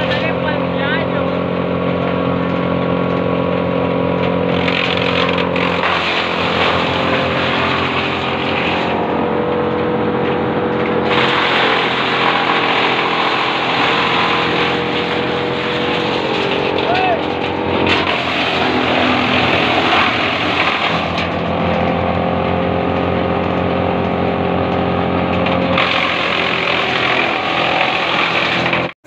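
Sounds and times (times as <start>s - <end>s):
wood chipper droning: 0.0s - 29.0s.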